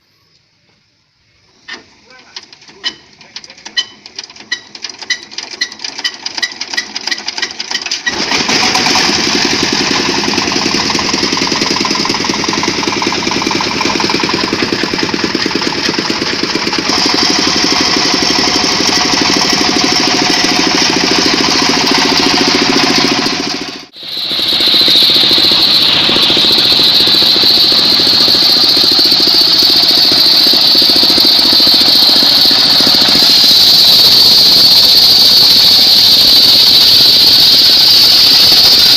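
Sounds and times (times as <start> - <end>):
sawmill engine idling with knock: 1.5 - 38.9
circular saw blade whining through wood: 1.7 - 38.9.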